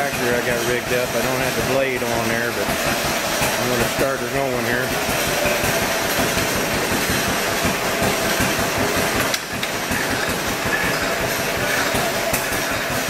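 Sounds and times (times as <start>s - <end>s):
tractor engine running: 0.0s - 13.0s
log saw mechanical clatter: 2.0s - 13.0s.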